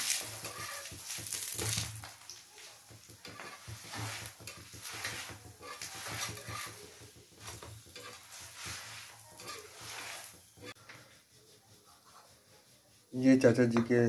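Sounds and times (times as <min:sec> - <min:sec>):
spatula scraping griddle: 0:00.0 - 0:13.5
light sizzle: 0:00.0 - 0:14.0.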